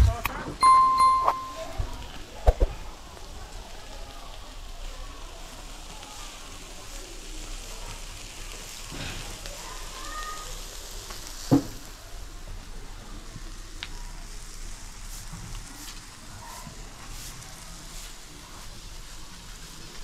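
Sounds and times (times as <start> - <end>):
chicken sizzling over charcoal: 0.0 - 20.0.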